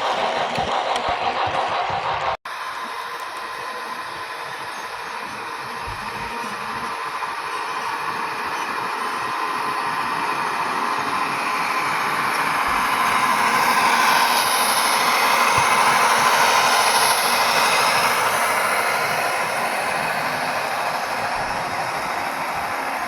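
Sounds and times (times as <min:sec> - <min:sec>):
model train whirring past: 0:00.0 - 0:23.0.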